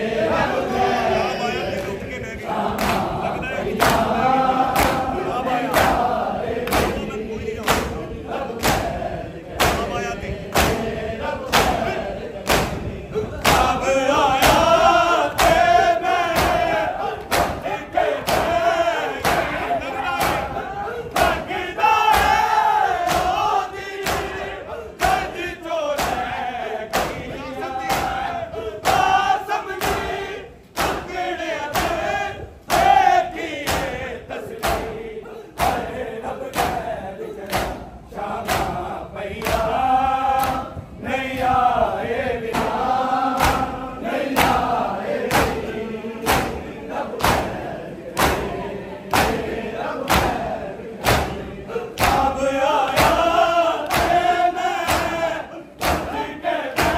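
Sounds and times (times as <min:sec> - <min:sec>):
men chanting a lament: 0:00.0 - 0:56.9
hands slapping chests in unison: 0:01.7 - 0:56.9.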